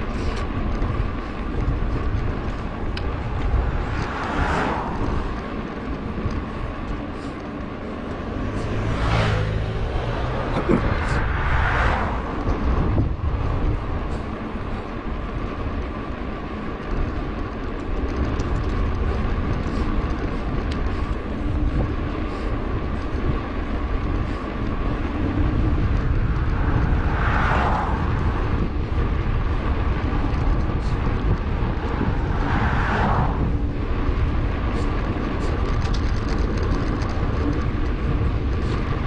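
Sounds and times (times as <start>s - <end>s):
bike riding rumble: 0.0s - 39.0s
wind on camera microphone: 0.0s - 39.0s.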